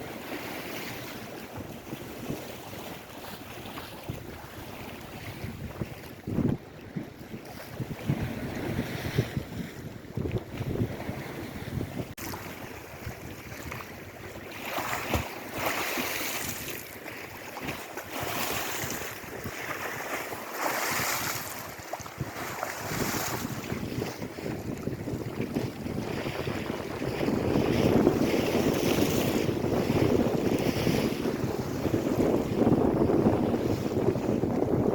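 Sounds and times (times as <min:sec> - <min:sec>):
waves breaking: 0:00.0 - 0:34.9
wind rumbling on microphone: 0:00.0 - 0:34.9.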